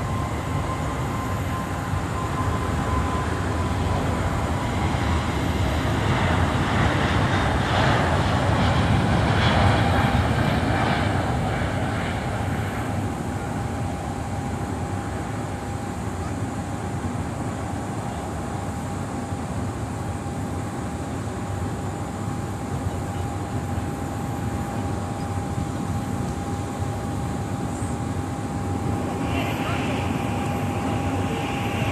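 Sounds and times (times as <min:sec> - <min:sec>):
distant jet engines roaring: 0:00.0 - 0:31.9
steady high whine: 0:00.0 - 0:31.9.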